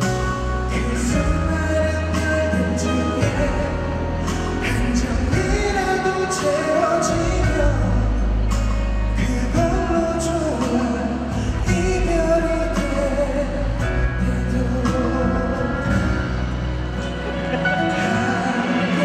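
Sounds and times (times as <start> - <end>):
band accompaniment: 0.0 - 19.0
man singing slow melody: 0.0 - 19.0
percussion strikes: 0.0 - 19.0
steady bass line: 0.0 - 19.0.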